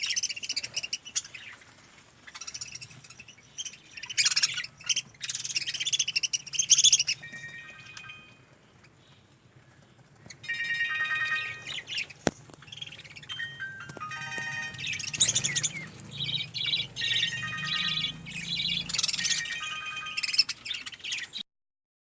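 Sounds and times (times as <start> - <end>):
budgerigars chirping and warbling: 0.0 - 21.4.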